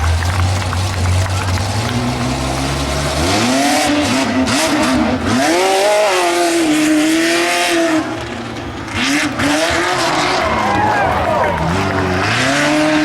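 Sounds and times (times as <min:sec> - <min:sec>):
truck engine revving hard: 0:00.0 - 0:13.0.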